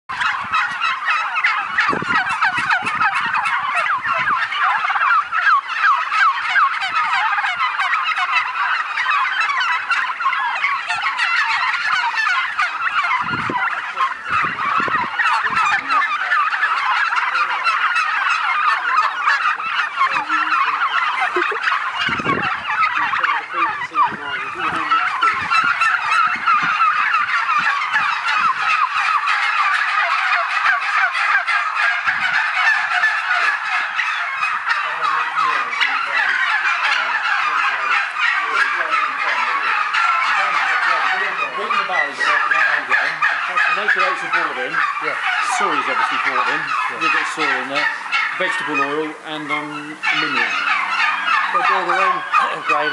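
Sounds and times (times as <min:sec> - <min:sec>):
turkeys gobbling: 0:00.1 - 0:52.9.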